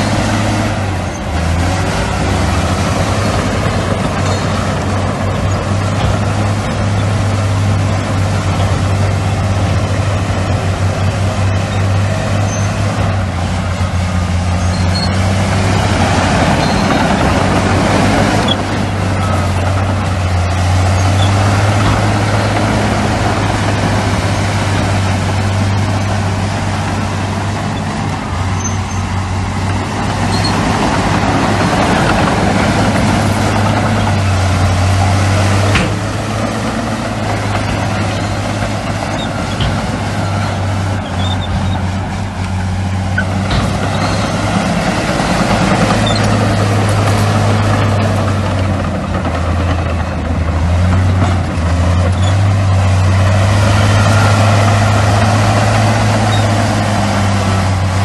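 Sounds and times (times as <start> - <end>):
heavy diesel machinery droning: 0.0 - 58.0.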